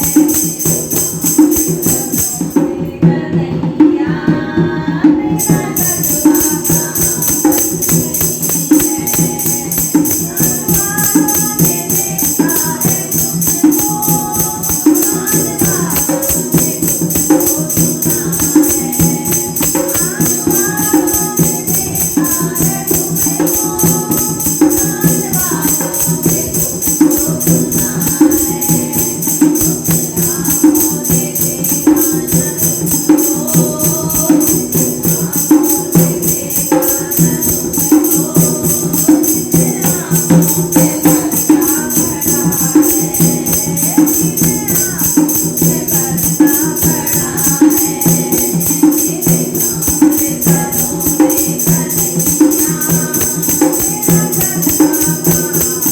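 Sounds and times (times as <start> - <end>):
steady percussion beat: 0.0 - 55.9
women singing a devotional song: 0.0 - 55.9.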